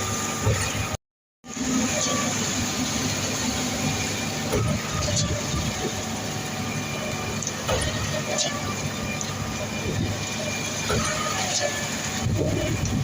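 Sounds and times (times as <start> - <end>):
diesel concrete truck running: 0.0 - 13.0.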